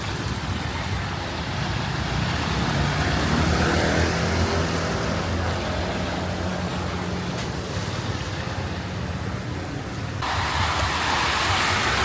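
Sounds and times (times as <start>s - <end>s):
rush of water: 0.0s - 12.0s
vehicle engines running: 0.0s - 12.0s.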